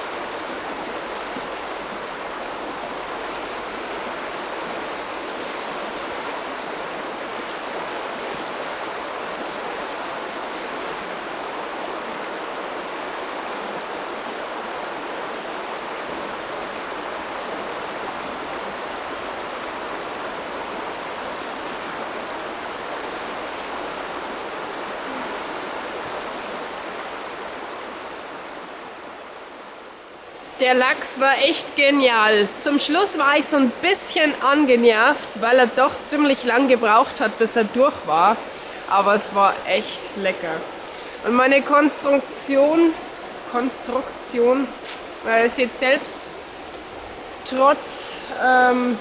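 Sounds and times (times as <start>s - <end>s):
river water flowing: 0.0s - 49.0s.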